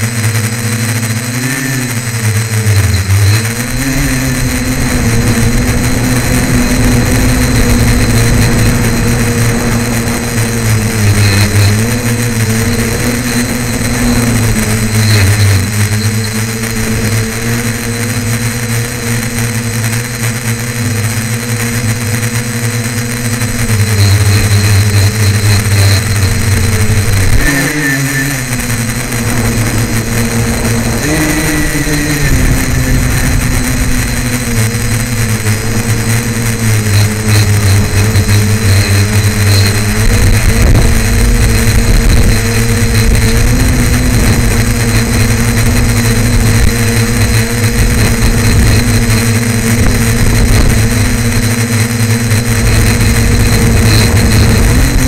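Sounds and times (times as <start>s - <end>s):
drone motors and propellers droning: 0.0s - 55.0s.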